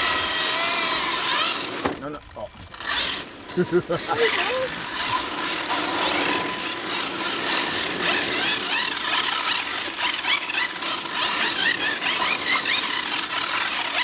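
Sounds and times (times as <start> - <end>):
rc car tyres squealing: 0.0 - 2.1, 2.7 - 14.0.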